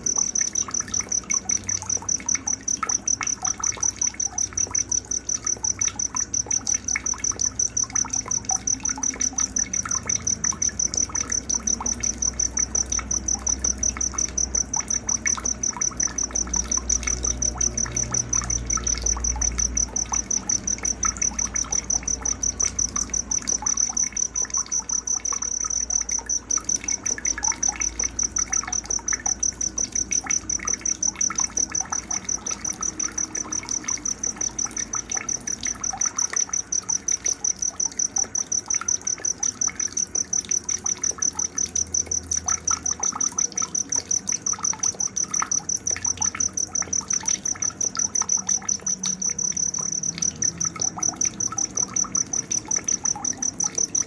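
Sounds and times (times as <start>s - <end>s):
insect trilling: 0.0s - 54.0s.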